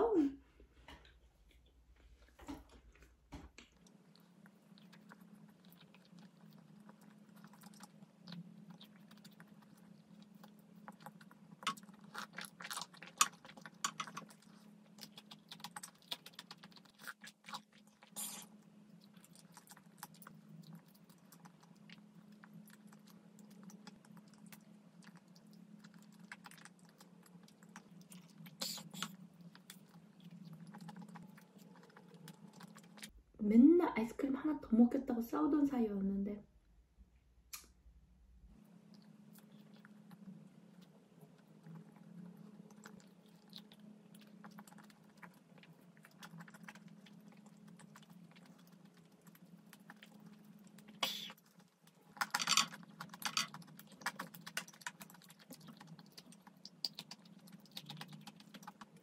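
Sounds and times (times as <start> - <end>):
faint low hum: 0.0 - 59.0
chewing mouth clicks and smacks: 3.6 - 33.1, 38.9 - 59.0.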